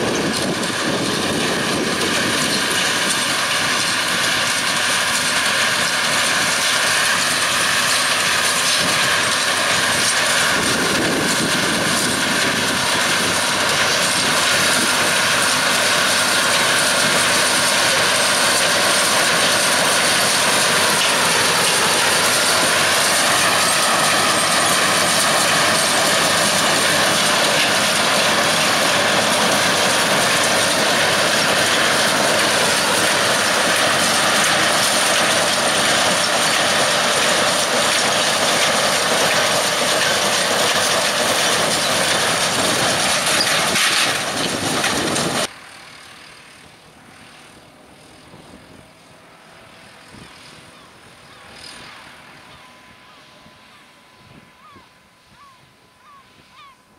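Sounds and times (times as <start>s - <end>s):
tractor engine under load: 0.0s - 46.0s
baler mechanism running: 0.0s - 47.4s.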